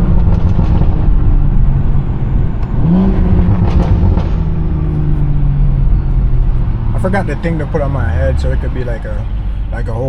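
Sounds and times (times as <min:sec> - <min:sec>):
car exhaust rumbling: 0:00.0 - 0:10.0.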